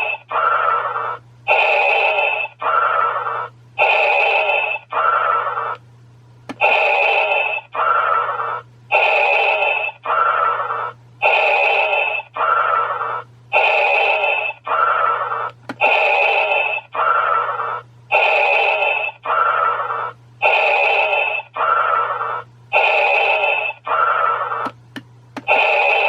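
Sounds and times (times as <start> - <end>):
electronic mechanical breathing: 0.0 - 5.8, 6.5 - 24.8, 25.4 - 26.0
low electronic hum: 0.0 - 26.0.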